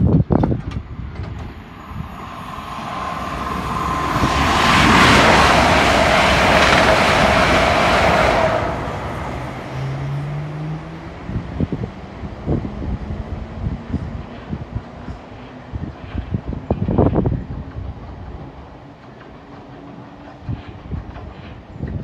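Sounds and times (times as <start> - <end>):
train passing at speed: 0.0 - 22.0
train whine: 0.4 - 22.0.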